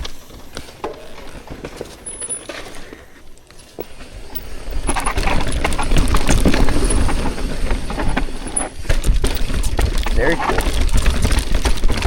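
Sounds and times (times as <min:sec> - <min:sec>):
bike tyres rumbling over rocks: 0:00.0 - 0:12.0
bike chain and frame rattling: 0:00.1 - 0:12.0.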